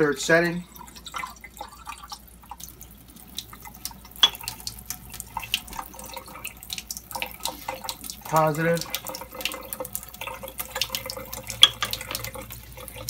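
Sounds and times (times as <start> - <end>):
water drips: 0.0 - 13.0
water stream splashing into sink: 0.7 - 13.0.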